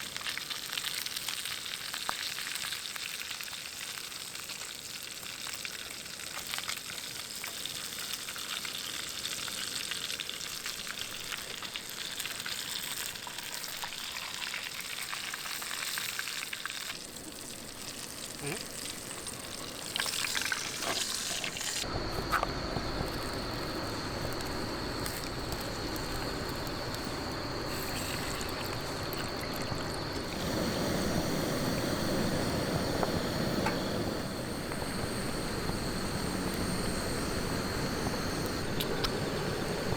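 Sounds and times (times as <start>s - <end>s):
food sizzling in a tin: 0.0s - 39.9s.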